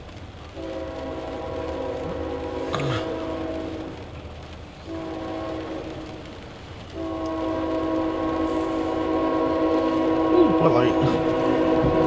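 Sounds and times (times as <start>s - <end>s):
train air horn blasts: 0.5s - 4.0s, 4.8s - 6.2s, 6.9s - 12.0s.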